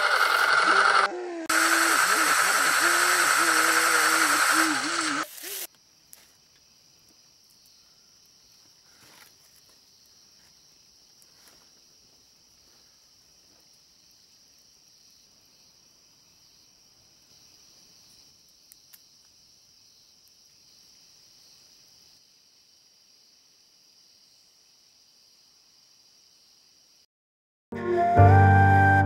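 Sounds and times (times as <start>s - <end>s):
crickets chirping: 1.5s - 27.1s.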